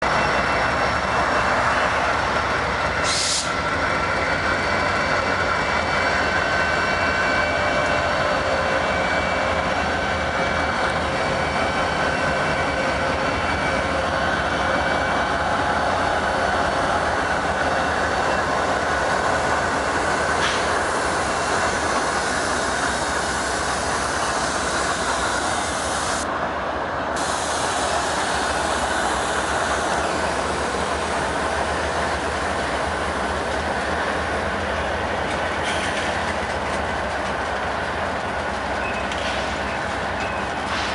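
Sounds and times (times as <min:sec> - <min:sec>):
train clanks: 0:00.0 - 0:26.3, 0:27.2 - 0:40.9
freight train cars rolling: 0:00.0 - 0:40.9.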